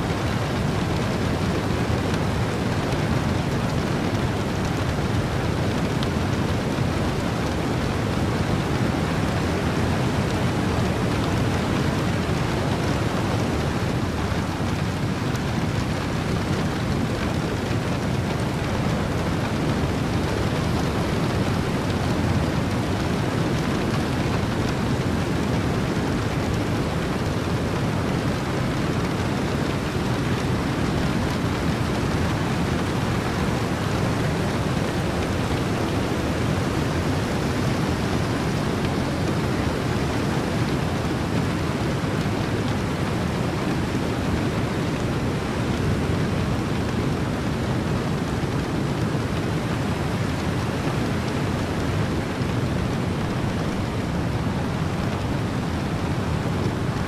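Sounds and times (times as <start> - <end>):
heavy rain: 0.0 - 57.0
ocean surf: 0.0 - 57.0
wind: 0.0 - 57.0.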